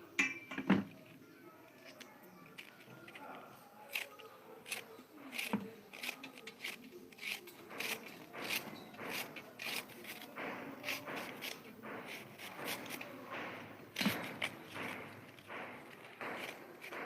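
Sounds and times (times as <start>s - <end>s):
chewing crunchy food: 1.7s - 17.0s.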